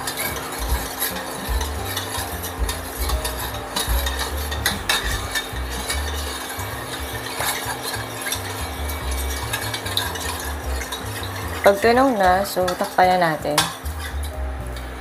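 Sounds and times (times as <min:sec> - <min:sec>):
spoon clinking against pot: 0:00.0 - 0:14.9
water sloshing in a pot: 0:00.0 - 0:15.0.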